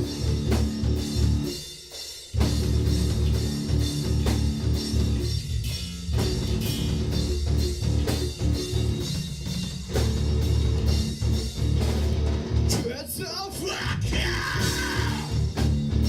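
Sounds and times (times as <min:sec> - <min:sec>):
rock band playing live: 0:00.0 - 0:01.7, 0:02.3 - 0:16.0.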